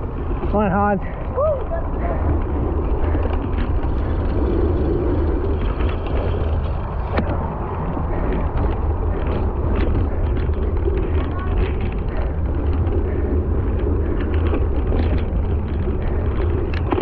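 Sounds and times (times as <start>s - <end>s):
bike rattling: 0.0s - 17.0s
bike tyre noise: 0.0s - 17.0s
wind rumble on microphone: 0.0s - 17.0s.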